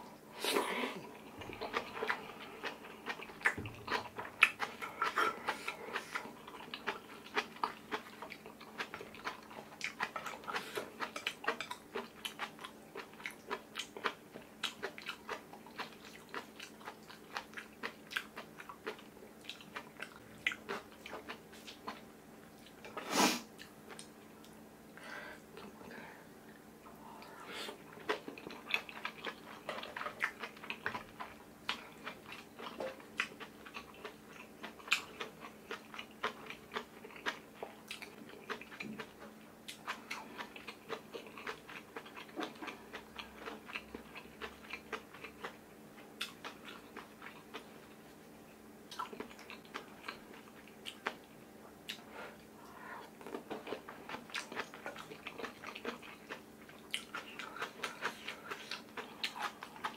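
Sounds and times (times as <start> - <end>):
person chewing: 0.5 - 24.6, 26.8 - 48.0, 48.9 - 59.9.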